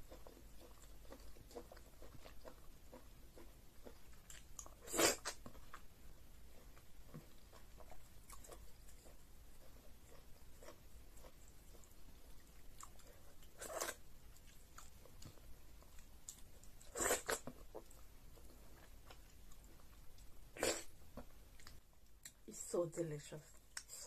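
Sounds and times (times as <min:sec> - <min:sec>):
soft chewing: 0:00.0 - 0:22.5, 0:23.4 - 0:24.0.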